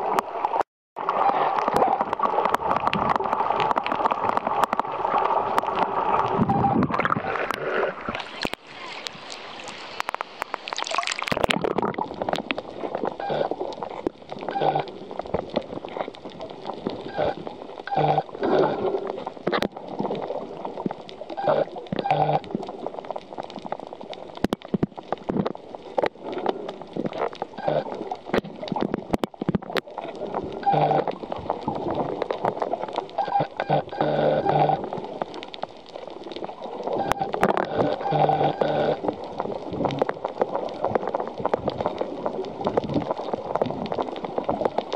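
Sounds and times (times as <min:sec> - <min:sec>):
sharp underwater clicks: 0:00.0 - 0:44.9
underwater gurgling: 0:00.0 - 0:44.9
water splashing: 0:00.0 - 0:44.9.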